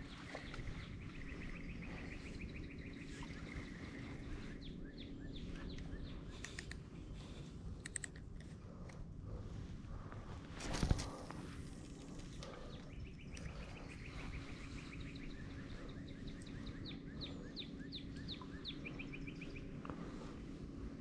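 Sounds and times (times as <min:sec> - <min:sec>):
small birds chirping: 0:00.0 - 0:09.5, 0:10.7 - 0:21.0
low outdoor rumble: 0:00.0 - 0:21.0.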